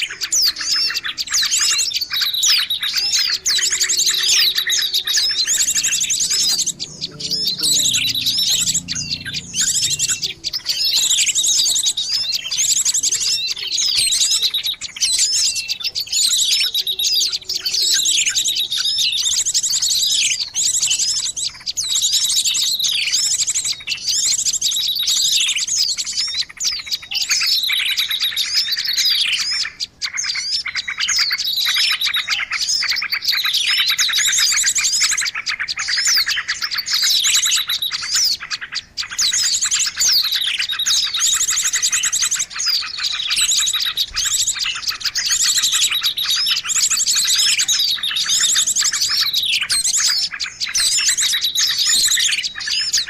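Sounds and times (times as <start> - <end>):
small birds chirping and trilling: 0.0 - 53.0.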